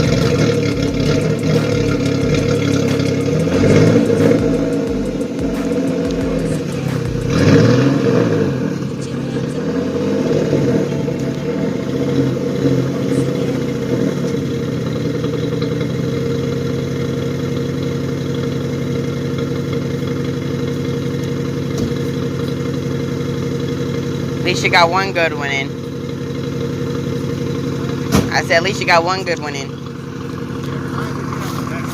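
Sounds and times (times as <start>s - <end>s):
car engine revving and idling: 0.0s - 31.9s.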